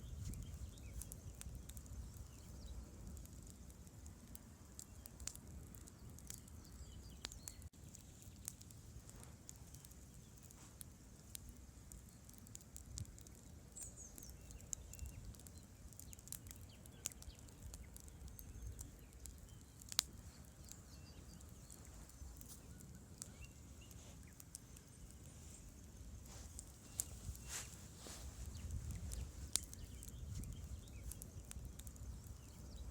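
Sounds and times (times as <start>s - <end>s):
campfire crackling: 0.0s - 32.9s
faint bird chirping: 0.0s - 32.9s.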